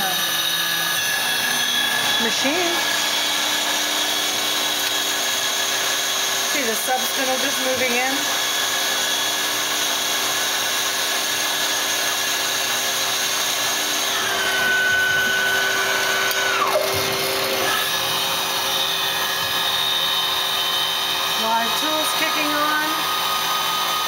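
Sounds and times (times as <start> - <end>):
lathe machine whir: 0.0 - 24.0.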